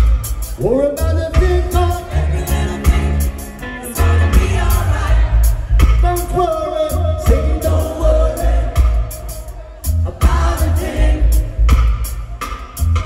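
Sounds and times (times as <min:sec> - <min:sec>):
deep bass line: 0:00.0 - 0:13.0
reggae band playing: 0:00.0 - 0:13.0
man singing: 0:00.6 - 0:11.6.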